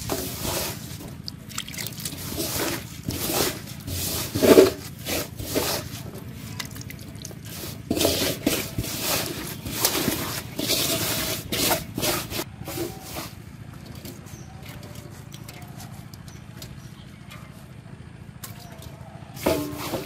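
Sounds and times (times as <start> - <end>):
hand stirring bait in metal basin: 0.0 - 16.8.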